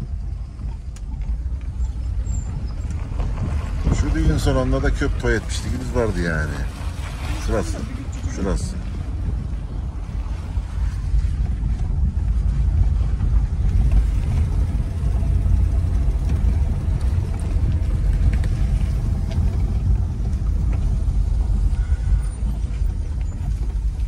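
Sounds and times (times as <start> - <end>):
car on dirt road rumble: 0.0 - 24.0.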